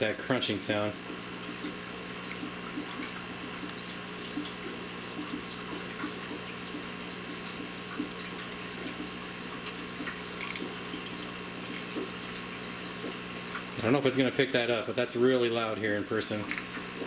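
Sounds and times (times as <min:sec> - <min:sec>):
aquarium water trickling: 0:00.0 - 0:17.0
pump hum: 0:00.0 - 0:17.0.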